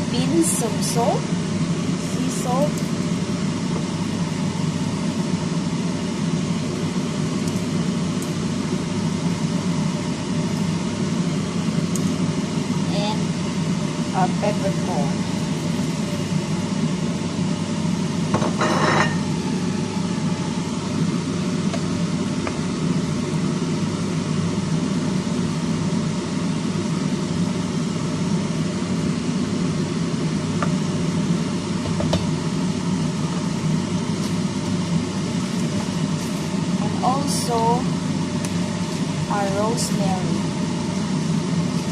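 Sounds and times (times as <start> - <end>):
mechanical hum: 0.0 - 41.9.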